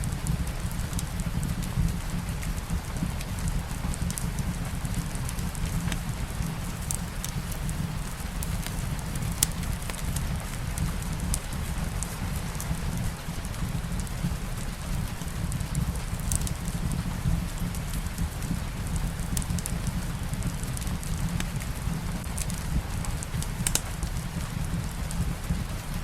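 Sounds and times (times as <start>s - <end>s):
low steady rumble: 0.0s - 25.9s
light rain hissing: 0.0s - 26.0s
wood fire crackling and popping: 0.0s - 26.0s.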